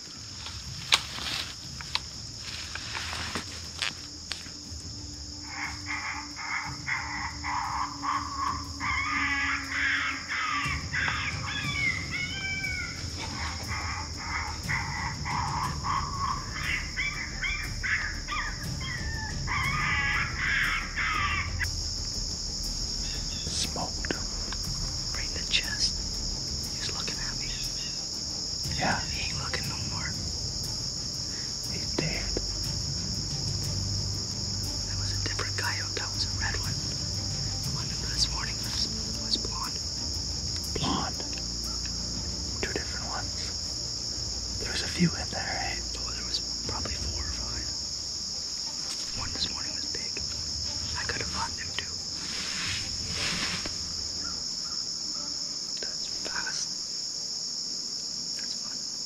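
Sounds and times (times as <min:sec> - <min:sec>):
crickets trilling: 0:00.0 - 0:59.0
coyotes yipping and howling: 0:05.1 - 0:56.8.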